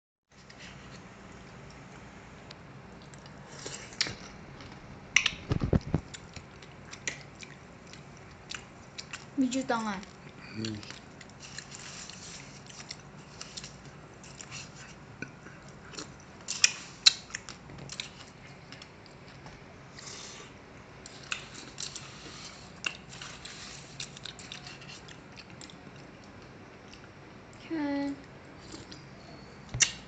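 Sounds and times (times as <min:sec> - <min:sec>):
chewing and biting mouth sounds: 0:02.9 - 0:27.2, 0:28.2 - 0:30.0.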